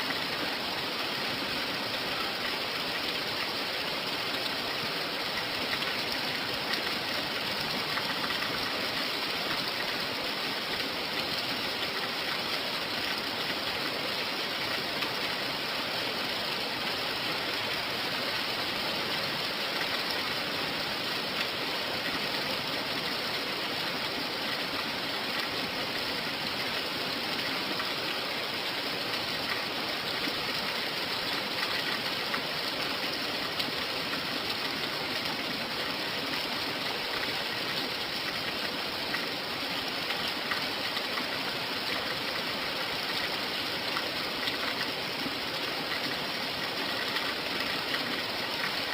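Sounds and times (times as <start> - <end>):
rain pattering: 0.0 - 48.9
steady rain hiss: 0.0 - 48.9.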